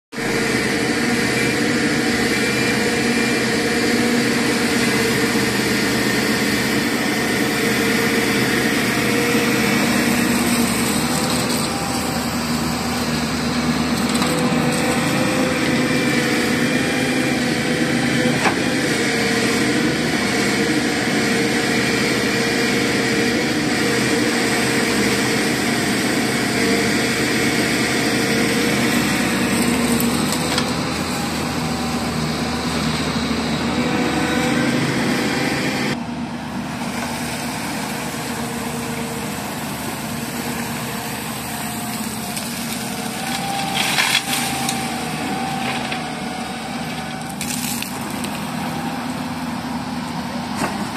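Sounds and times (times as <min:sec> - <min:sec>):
excavator diesel engine humming: 0:00.1 - 0:50.9
hydraulic whine: 0:00.1 - 0:50.9.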